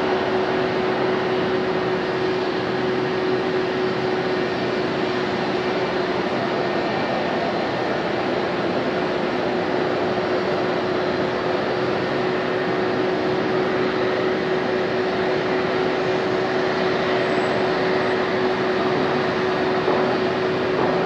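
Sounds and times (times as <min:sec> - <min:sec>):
jet engines at takeoff: 0:00.0 - 0:21.0
steady hum: 0:00.0 - 0:21.0.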